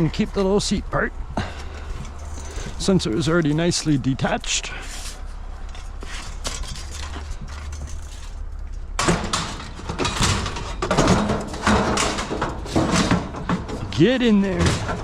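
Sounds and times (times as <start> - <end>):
scrap metal knocking and clattering: 1.4 - 3.5, 4.6 - 15.0.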